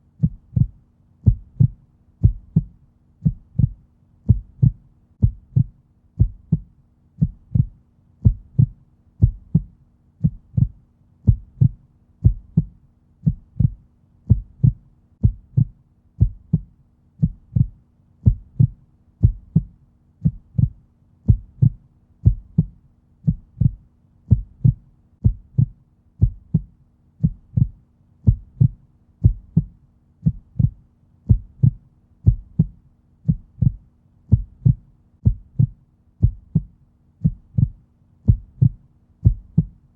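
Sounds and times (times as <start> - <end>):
heartbeat thumps: 0.2 - 39.8.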